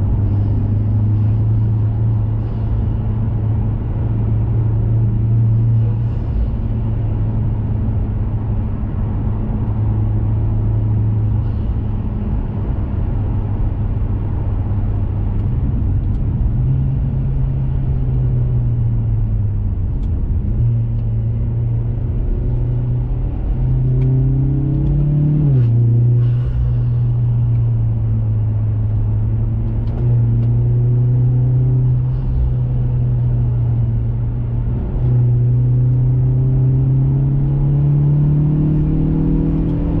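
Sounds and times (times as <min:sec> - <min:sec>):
car engine droning: 0:00.0 - 0:40.0
road noise: 0:00.0 - 0:40.0.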